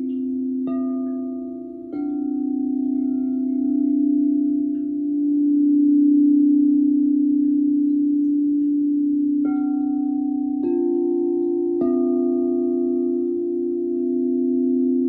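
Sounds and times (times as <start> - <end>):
singing bowls ringing: 0.0 - 15.0.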